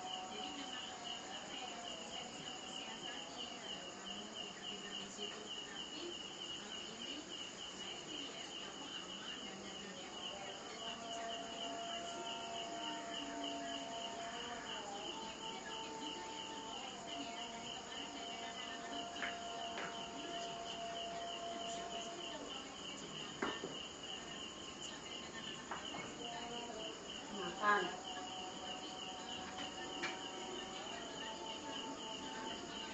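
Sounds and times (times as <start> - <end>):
cricket chirping: 0.0 - 32.9.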